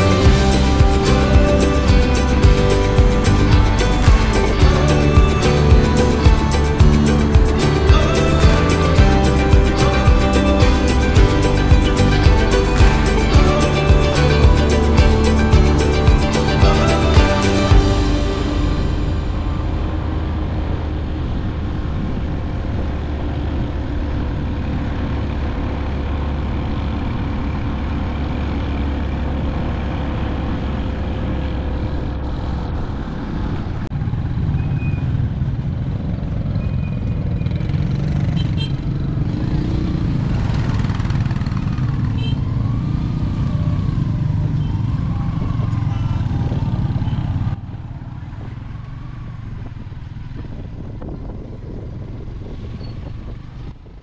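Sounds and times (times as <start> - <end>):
motorbike engine running: 0.0 - 31.4, 34.0 - 53.3
road and wind noise: 0.0 - 54.0.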